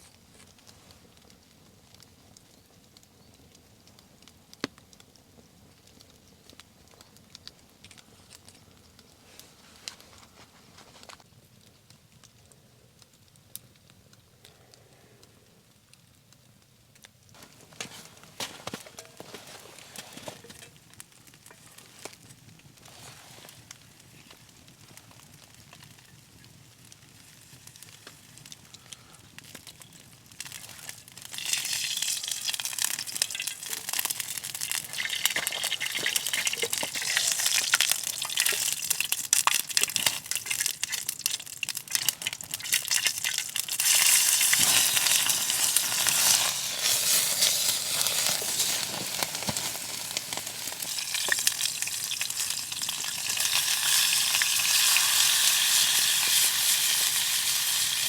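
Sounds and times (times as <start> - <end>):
meat sizzling over campfire: 0.0 - 58.0.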